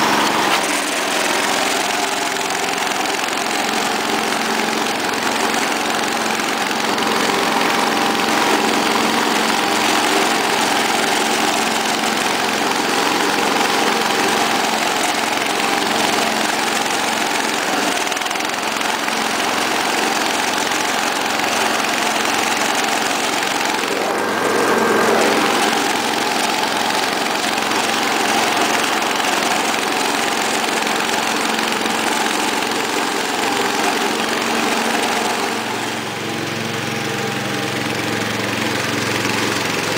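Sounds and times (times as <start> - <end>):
lawn tractor engine under load: 0.0 - 39.9.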